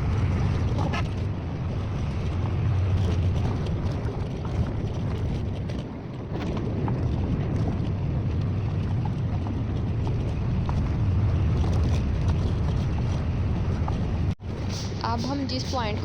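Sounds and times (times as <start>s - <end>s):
vehicle rumble: 0.0s - 16.0s
wind on microphone: 0.0s - 16.0s.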